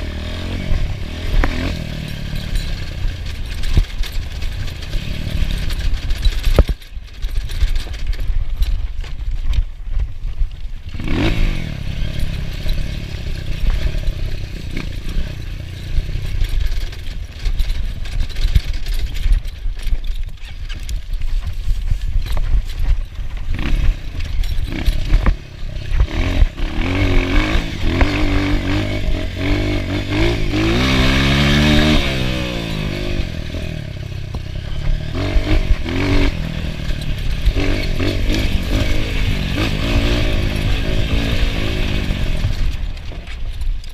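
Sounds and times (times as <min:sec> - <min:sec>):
motorcycle clattering over bumps: 0:00.0 - 0:43.9
motorcycle engine revving: 0:00.0 - 0:43.9.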